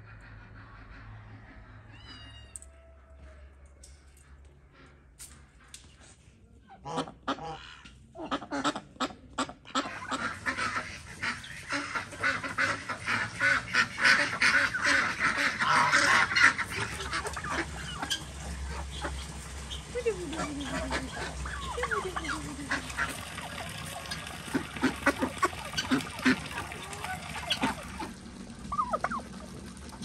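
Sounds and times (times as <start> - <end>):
geese honking and ducks quacking: 0.0 - 1.9, 6.7 - 30.0.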